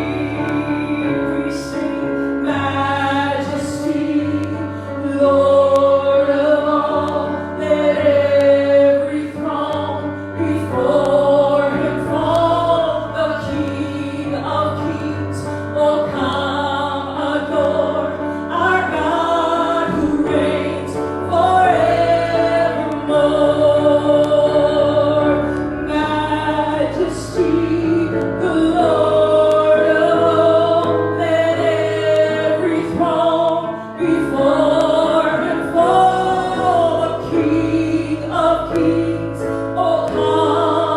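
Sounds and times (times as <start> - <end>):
group of voices singing: 0.0 - 40.9
instrumental accompaniment: 0.0 - 40.9.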